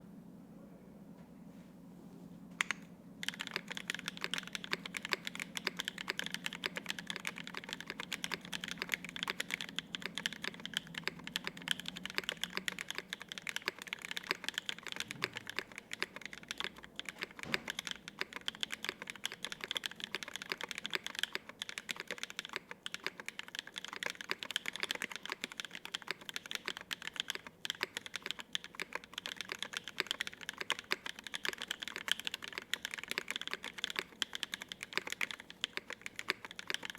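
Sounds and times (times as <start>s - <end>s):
fast mechanical keyboard typing: 2.6s - 36.9s.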